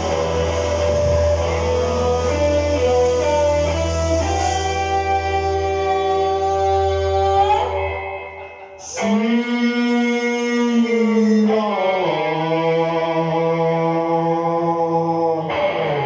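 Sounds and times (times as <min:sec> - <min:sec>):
rock band sustained chords: 0:00.0 - 0:16.0.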